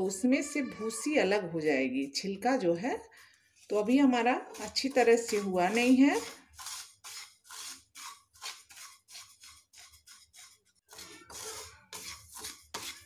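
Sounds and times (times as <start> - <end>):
spatula scraping seeds in a pan: 1.6 - 13.0.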